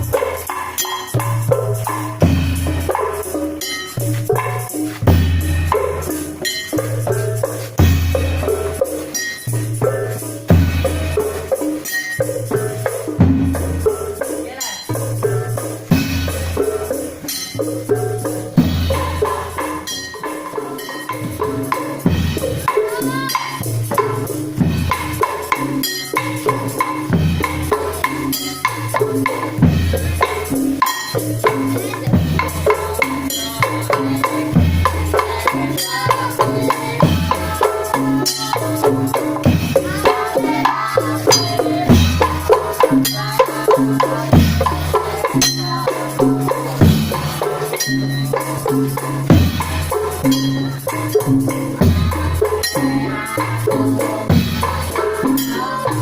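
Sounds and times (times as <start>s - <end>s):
bamboo slit drums and drums: 0.0s - 56.0s.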